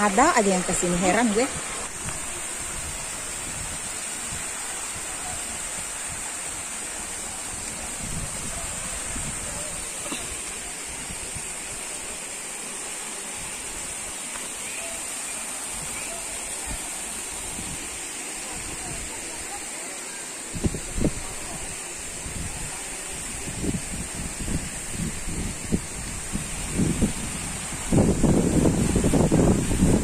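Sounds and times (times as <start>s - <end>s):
steady high hiss: 0.0s - 30.0s
water rushing over rocks: 0.0s - 30.0s.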